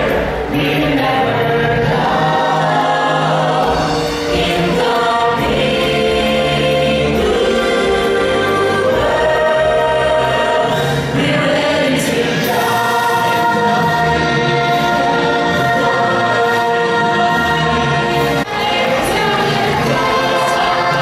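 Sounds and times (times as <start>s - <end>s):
band accompaniment: 0.0s - 21.0s
chorus of voices singing: 0.0s - 21.0s.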